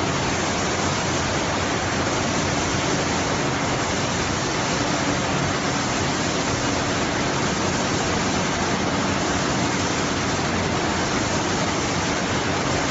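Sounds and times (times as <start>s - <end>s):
processing machinery running: 0.0s - 12.9s.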